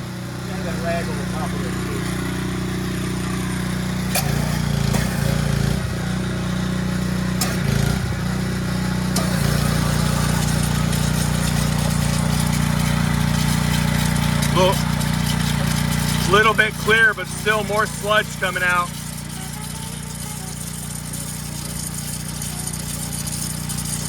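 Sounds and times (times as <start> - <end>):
pressure washer running: 0.0 - 24.0.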